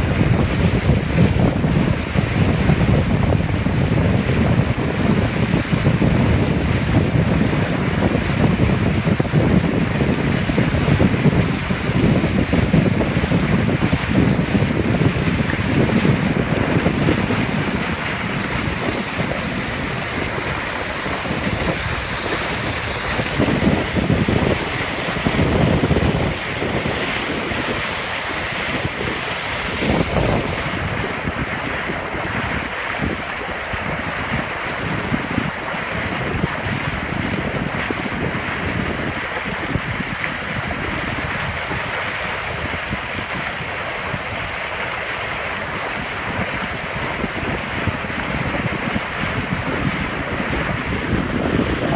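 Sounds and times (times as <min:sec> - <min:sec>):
bow wave splashing along hull: 0:00.0 - 0:51.9
wind buffeting microphone: 0:00.0 - 0:51.9.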